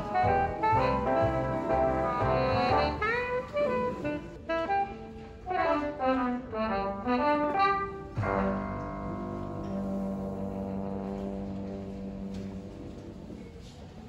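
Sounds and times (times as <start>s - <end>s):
jazz music with horn melody: 0.0s - 13.8s.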